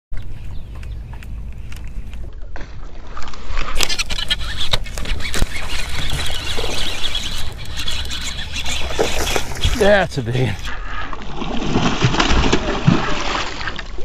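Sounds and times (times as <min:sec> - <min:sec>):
rippling water: 0:02.2 - 0:14.0
water splashing against boat: 0:02.2 - 0:14.0.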